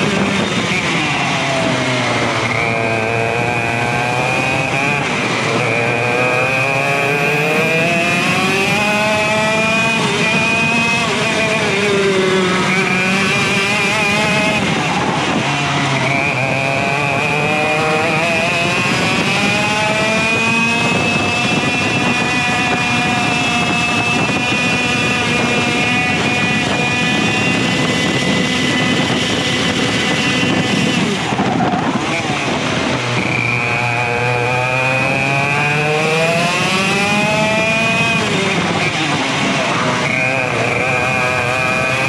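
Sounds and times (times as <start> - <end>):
kart engine revving: 0.0 - 42.0.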